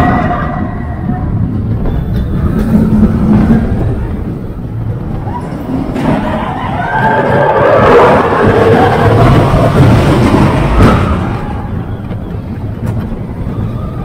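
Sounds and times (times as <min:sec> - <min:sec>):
roller coaster wheels rumbling on rail: 0:00.0 - 0:14.0.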